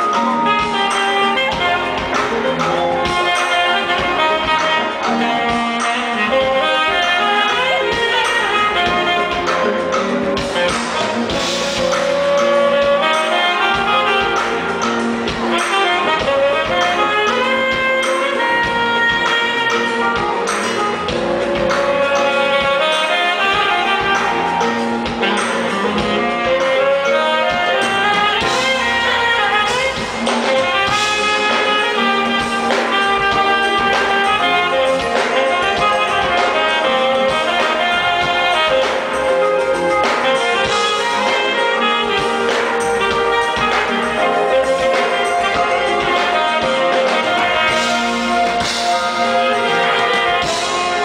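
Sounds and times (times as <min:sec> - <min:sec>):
bass: 0:00.0 - 0:51.0
keyboards: 0:00.0 - 0:51.0
saxophone melody: 0:00.0 - 0:51.0
steady drum beat: 0:00.0 - 0:51.0.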